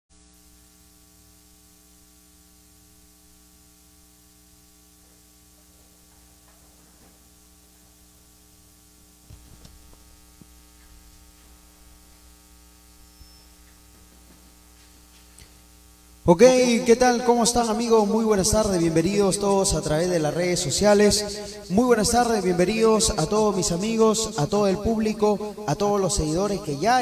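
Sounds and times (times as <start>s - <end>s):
electrical mains hum: 0.1s - 27.0s.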